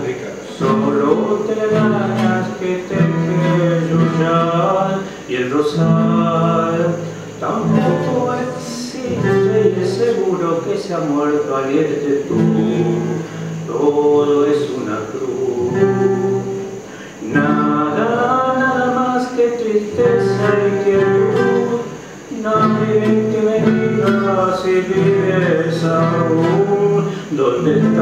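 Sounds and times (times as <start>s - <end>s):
acoustic guitar: 0.0s - 28.0s
man singing: 0.0s - 28.0s.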